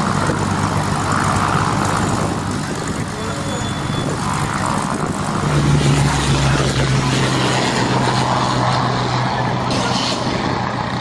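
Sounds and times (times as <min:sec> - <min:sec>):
aircraft engine droning in flight: 0:00.0 - 0:11.0.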